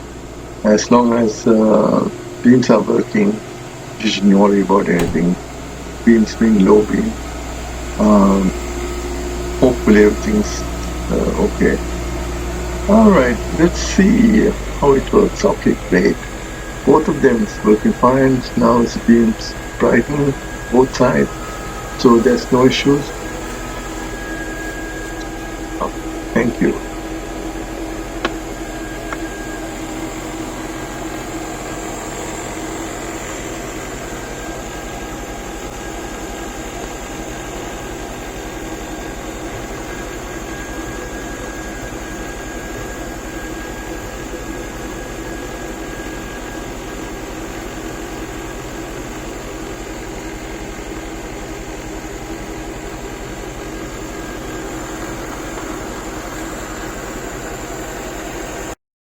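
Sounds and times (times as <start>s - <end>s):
car engine idling: 0.0s - 58.7s.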